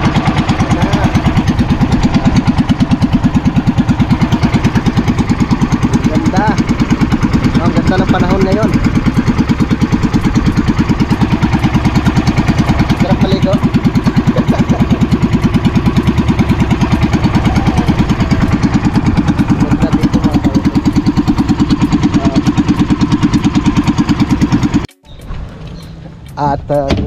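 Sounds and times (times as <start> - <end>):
boat engine chugging: 0.0 - 27.0.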